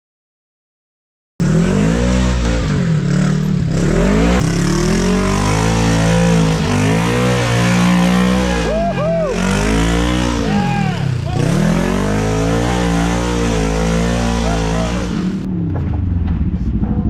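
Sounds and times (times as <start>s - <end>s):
vehicle engine revving: 1.4s - 17.0s.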